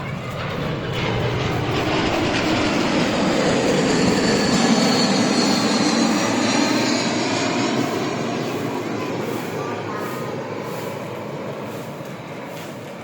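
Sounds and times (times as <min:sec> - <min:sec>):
airplane engine roar: 0:00.0 - 0:13.0
faint high engine whine: 0:00.0 - 0:13.0.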